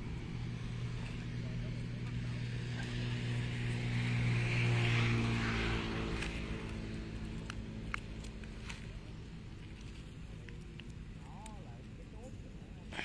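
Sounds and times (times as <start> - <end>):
embers crackling: 0.0 - 13.0
engine passing by: 0.0 - 13.0.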